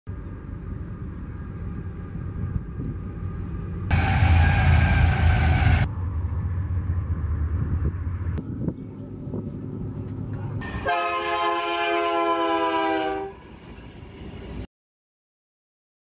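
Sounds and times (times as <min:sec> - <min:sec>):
diesel locomotives rumbling: 0:00.1 - 0:14.7.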